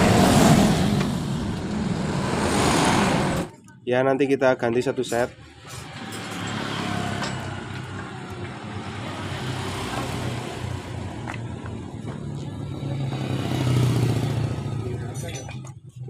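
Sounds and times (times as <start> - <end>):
vehicle engine humming: 0.0 - 3.9, 4.8 - 16.0
traffic rumble: 0.0 - 4.0, 4.8 - 16.0.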